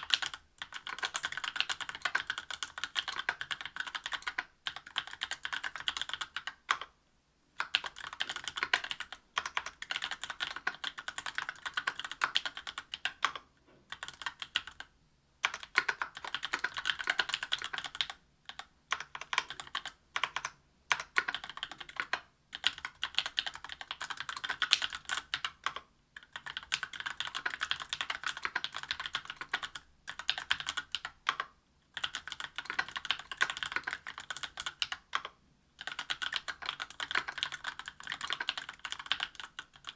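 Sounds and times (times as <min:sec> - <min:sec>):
mechanical keyboard typing: 0:00.0 - 0:06.9, 0:07.6 - 0:39.9.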